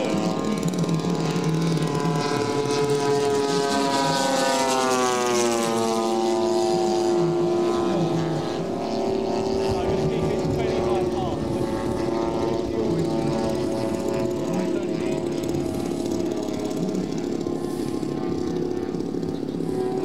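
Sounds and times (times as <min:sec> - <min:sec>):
model plane propeller engines droning: 0:00.0 - 0:20.0.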